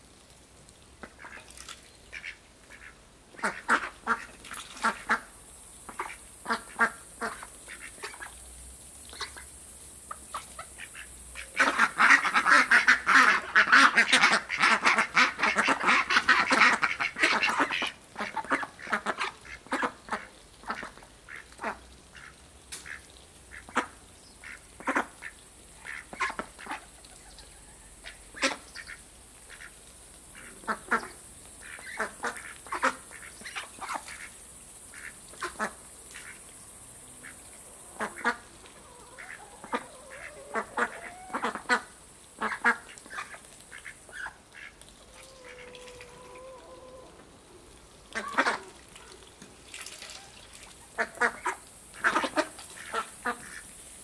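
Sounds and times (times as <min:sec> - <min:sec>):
ducks quacking: 0:02.1 - 0:05.3, 0:05.9 - 0:08.3, 0:10.1 - 0:36.5, 0:37.1 - 0:47.4, 0:48.0 - 0:49.3, 0:50.1 - 0:53.7.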